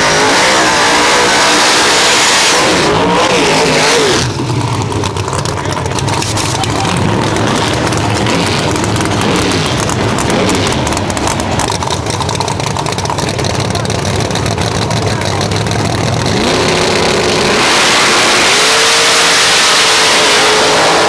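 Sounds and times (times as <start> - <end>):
race car engine roaring: 0.0 - 21.0.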